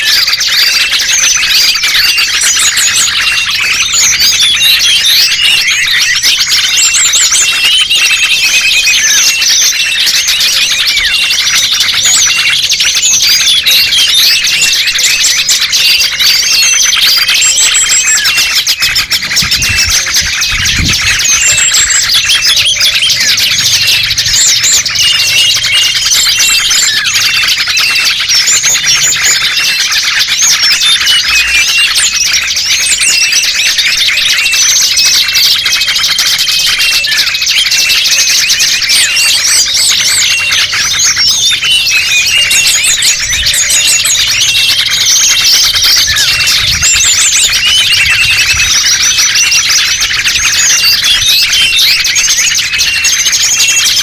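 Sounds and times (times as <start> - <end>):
songbirds chirping: 0.0 - 54.0
whistled notes: 0.0 - 54.0.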